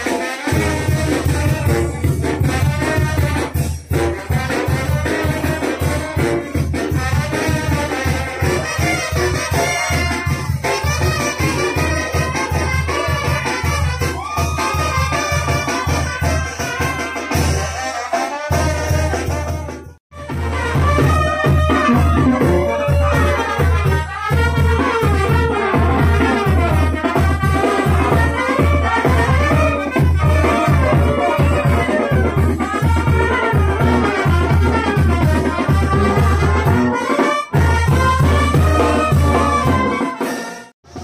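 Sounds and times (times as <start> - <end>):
tuba: 0.0 - 14.1, 14.8 - 41.0
brass band playing dance tune: 0.0 - 41.0
drum beat: 0.0 - 41.0.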